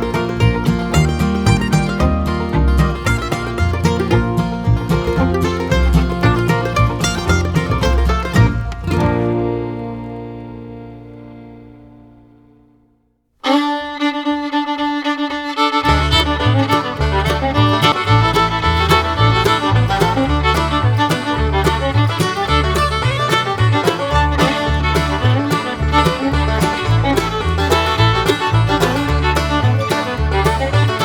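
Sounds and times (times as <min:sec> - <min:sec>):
rhythmic bass line: 0:00.0 - 0:10.3, 0:15.9 - 0:31.0
bluegrass fiddle tune: 0:00.0 - 0:31.0.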